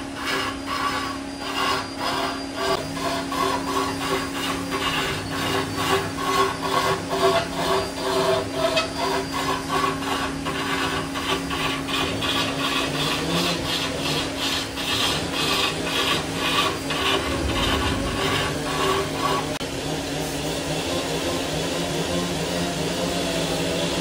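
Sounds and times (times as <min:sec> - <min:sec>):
pad rasping on spinning wood: 0:00.0 - 0:19.6
wood lathe motor hum: 0:00.0 - 0:19.6.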